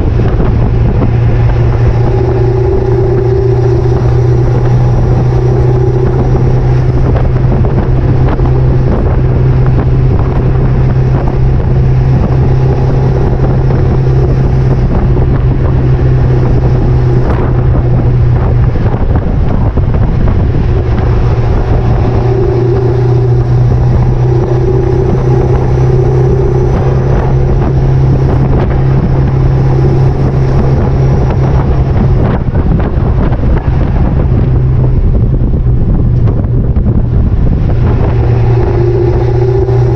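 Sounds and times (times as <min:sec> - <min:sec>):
road and tyre drone: 0:00.0 - 0:39.9
wind noise on microphone: 0:00.0 - 0:39.9.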